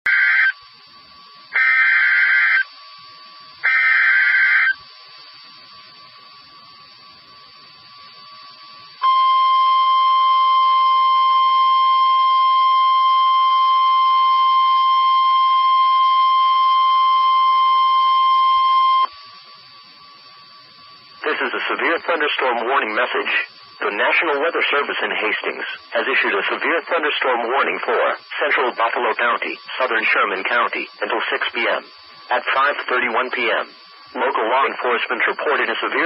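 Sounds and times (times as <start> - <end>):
buzzing digital data tones: 0.1 - 36.0
steady warning alarm tone: 0.1 - 36.0.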